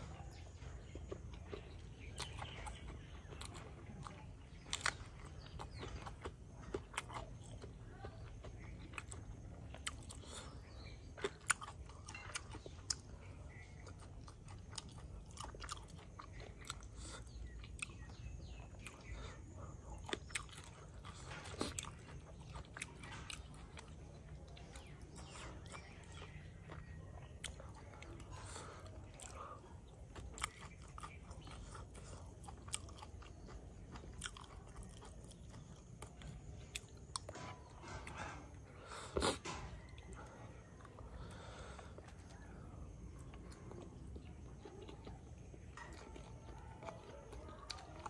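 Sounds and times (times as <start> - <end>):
close-miked chewing: 0.0 - 48.0.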